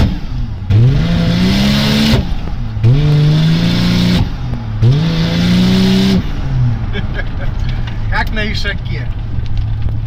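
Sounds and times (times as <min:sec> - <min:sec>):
car engine accelerating through gears: 0:00.0 - 0:08.1.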